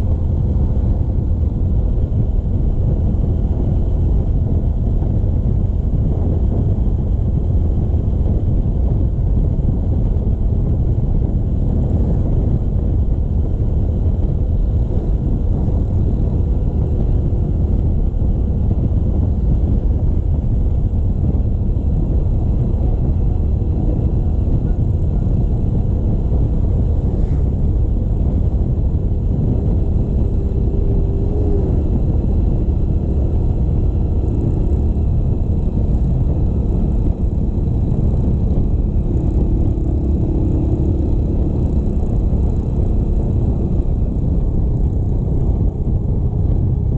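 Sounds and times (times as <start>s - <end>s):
motorcycle engine running: 0.0s - 46.9s
road rumble: 0.0s - 46.9s
wind rush on microphone: 0.0s - 46.9s.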